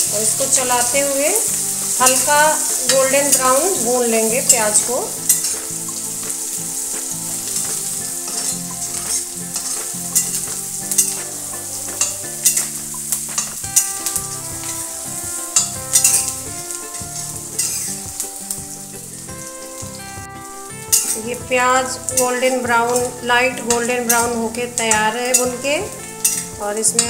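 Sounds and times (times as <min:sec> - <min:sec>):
onions sizzling in hot oil: 0:00.0 - 0:27.0
spatula scraping metal pan: 0:00.2 - 0:20.0, 0:20.7 - 0:27.0.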